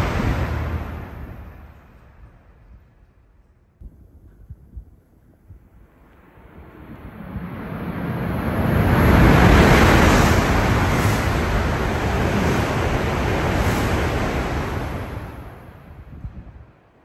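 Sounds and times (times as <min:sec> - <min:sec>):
high-speed train passing: 0:00.0 - 0:03.4, 0:05.7 - 0:17.0.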